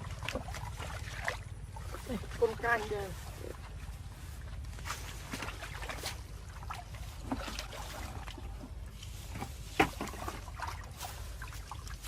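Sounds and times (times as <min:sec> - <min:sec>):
steady low rumble: 0:00.0 - 0:12.0
water sloshing and splashing: 0:00.0 - 0:12.0.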